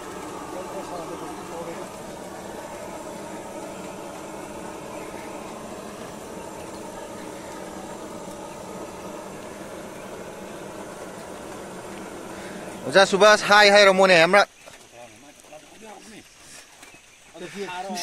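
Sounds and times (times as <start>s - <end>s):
steady hiss and hum: 0.0s - 18.0s.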